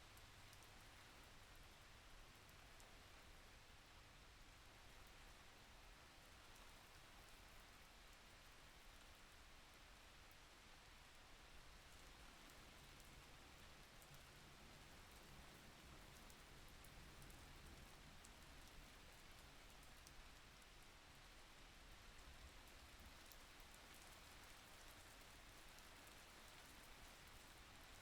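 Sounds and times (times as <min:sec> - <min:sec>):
faint rain: 0:00.0 - 0:28.0.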